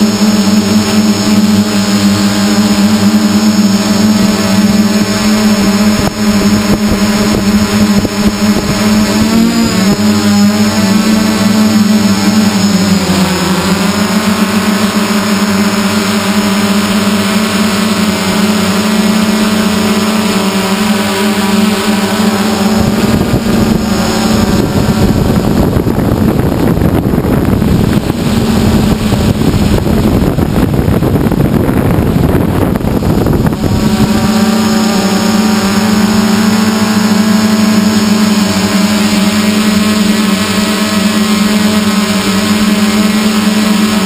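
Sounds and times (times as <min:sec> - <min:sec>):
drone propellers humming: 0:00.0 - 0:44.0
wind on microphone: 0:00.0 - 0:44.0.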